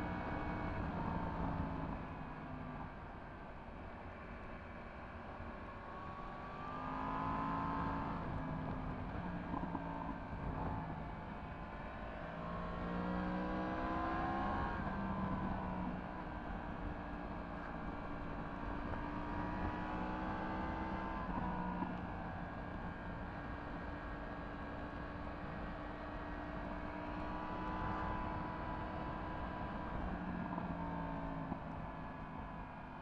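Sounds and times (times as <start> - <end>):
wind: 0.0 - 33.0.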